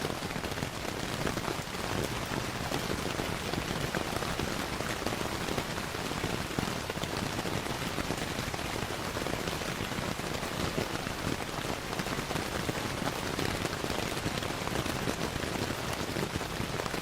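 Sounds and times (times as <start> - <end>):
steady rainfall hiss: 0.0 - 17.0.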